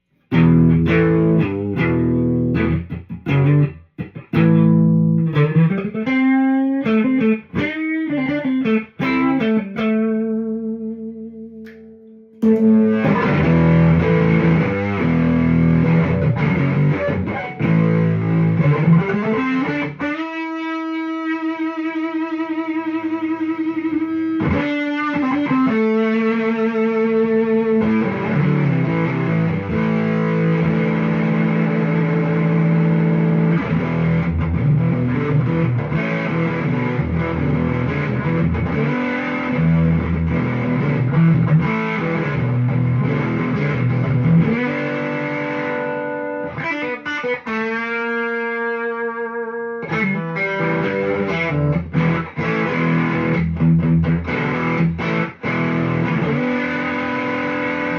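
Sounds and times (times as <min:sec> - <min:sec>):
distorted electric guitar: 0:00.0 - 0:57.9.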